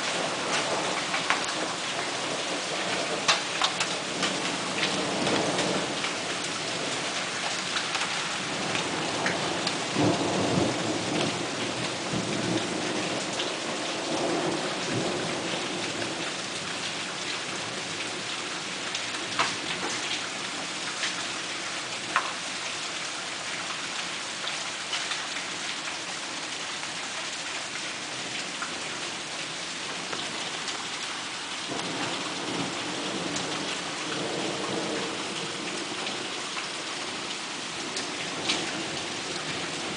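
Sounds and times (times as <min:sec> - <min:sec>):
hail and rain pelting: 0:00.0 - 0:39.9.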